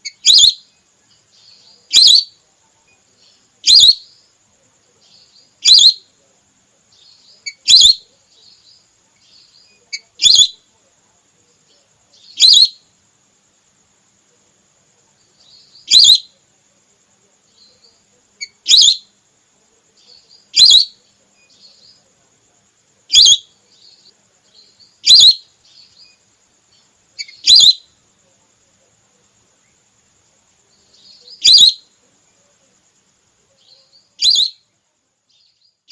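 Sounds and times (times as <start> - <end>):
soft chirps: 0.0 - 35.9.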